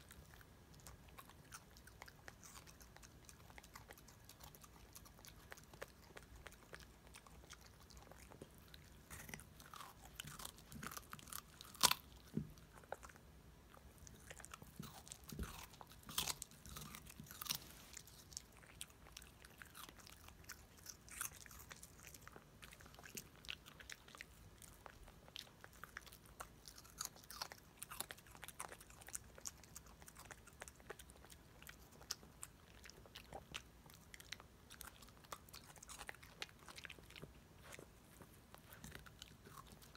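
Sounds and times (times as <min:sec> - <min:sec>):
dog crunching radish: 0:00.0 - 0:39.9.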